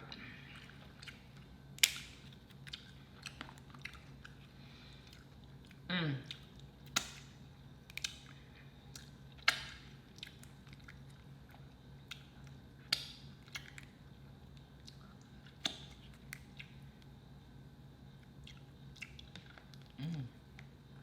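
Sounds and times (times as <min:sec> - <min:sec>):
faint low hum: 0:00.0 - 0:21.0
chewing with wet mouth smacks: 0:00.4 - 0:17.1, 0:18.2 - 0:20.7.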